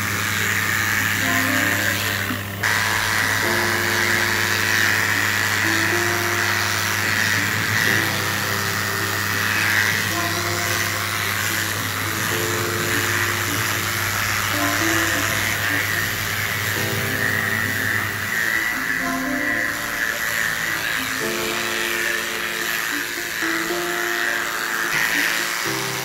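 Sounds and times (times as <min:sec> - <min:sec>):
background music: 0:00.0 - 0:26.0
electric dog clippers buzzing: 0:00.0 - 0:26.0.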